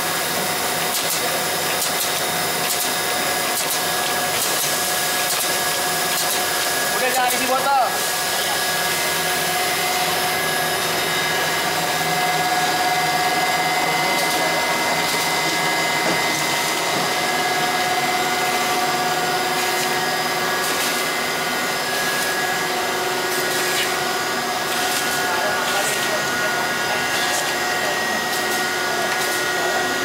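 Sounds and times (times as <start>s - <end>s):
machinery whirring: 0.0s - 30.0s.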